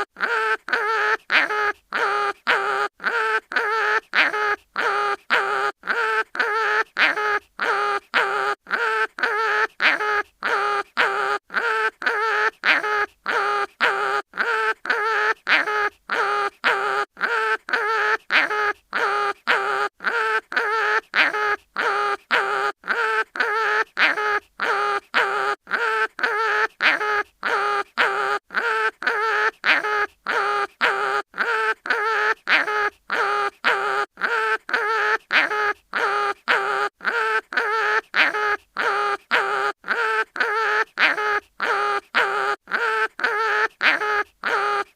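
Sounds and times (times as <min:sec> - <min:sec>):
cartoon animal whimpering cries: 0:00.0 - 0:44.9.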